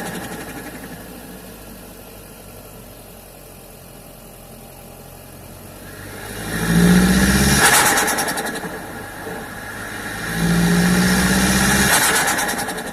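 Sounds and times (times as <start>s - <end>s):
car engine idling through intake: 0.0s - 12.9s.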